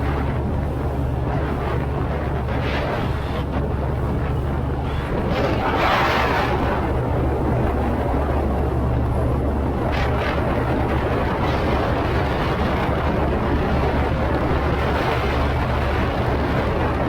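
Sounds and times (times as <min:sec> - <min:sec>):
boat engine humming: 0:00.0 - 0:17.0
rush of wind and water: 0:00.0 - 0:17.0.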